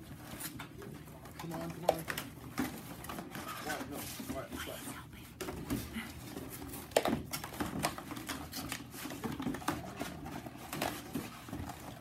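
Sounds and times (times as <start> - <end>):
cardboard boxes being folded: 0.0 - 12.0.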